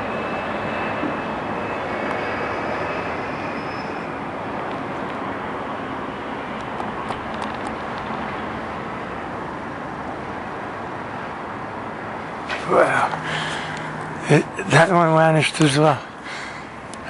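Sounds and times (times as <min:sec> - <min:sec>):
distant engine rumble: 0:00.0 - 0:17.0.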